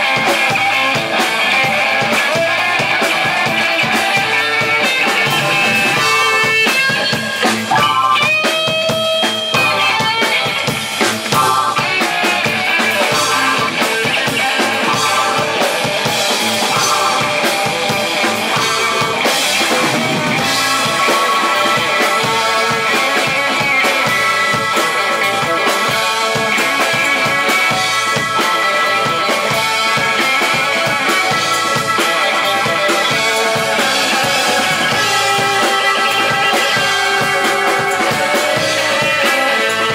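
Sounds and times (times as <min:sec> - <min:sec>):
live band playing jazz: 0:00.0 - 0:39.9.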